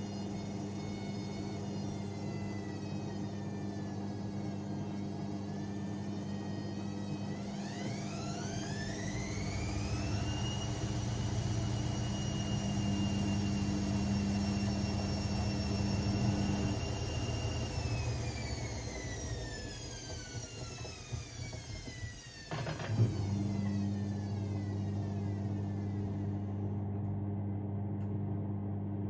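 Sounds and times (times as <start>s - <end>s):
washing machine spinning up: 0.0s - 29.0s.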